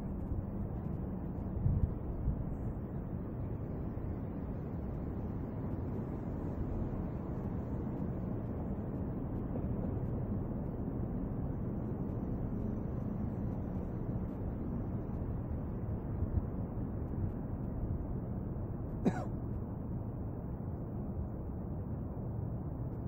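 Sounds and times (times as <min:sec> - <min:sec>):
outdoor background rumble: 0:00.0 - 0:23.0.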